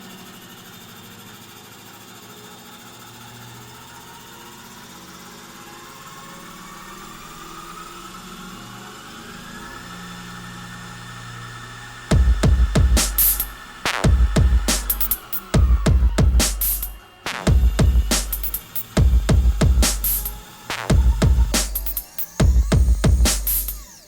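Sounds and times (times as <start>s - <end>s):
lathe motor hum with whine: 0.0s - 21.6s.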